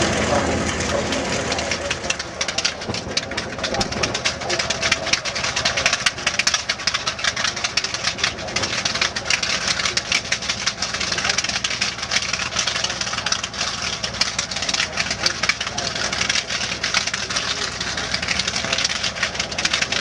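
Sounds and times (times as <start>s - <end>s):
piston aircraft engines running: 0.0s - 20.0s.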